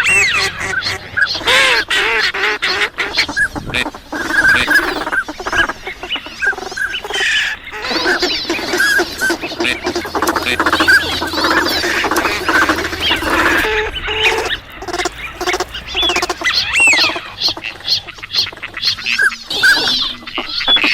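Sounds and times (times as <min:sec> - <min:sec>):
ducks quacking: 0:00.0 - 0:20.9
whistled duck calls: 0:00.0 - 0:20.9.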